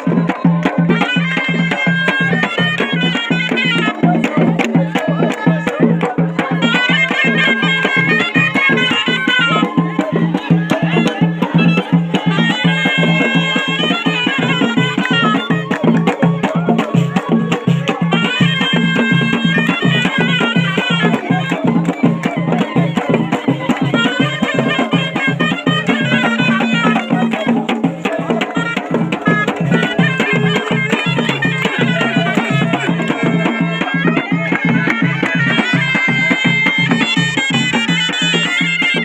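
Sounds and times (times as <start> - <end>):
shrill double-reed shawm melody: 0.0 - 39.0.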